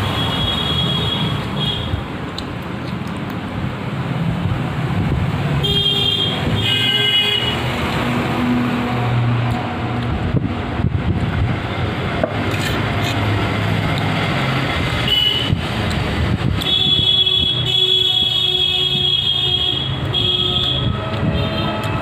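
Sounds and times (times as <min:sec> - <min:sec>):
vehicle noise: 0:00.0 - 0:22.0.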